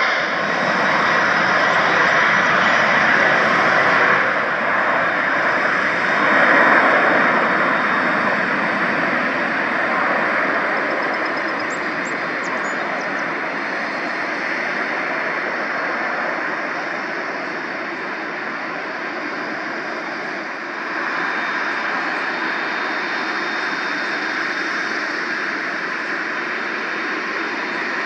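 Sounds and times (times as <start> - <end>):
aircraft engines: 0.0 - 28.0.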